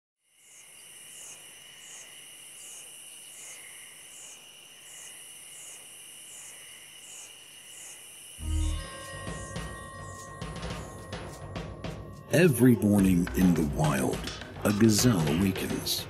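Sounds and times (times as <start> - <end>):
crickets trilling: 0.2 - 14.0
high pulsing insect call: 0.2 - 15.8.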